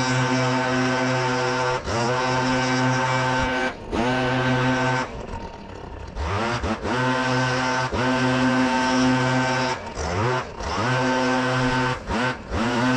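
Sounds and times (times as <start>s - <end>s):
leaf vacuum engine droning: 0.0s - 12.9s.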